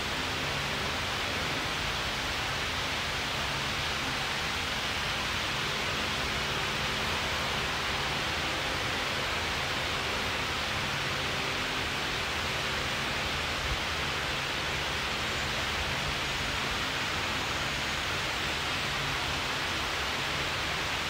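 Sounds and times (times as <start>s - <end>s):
fan blowing hiss: 0.0s - 21.0s.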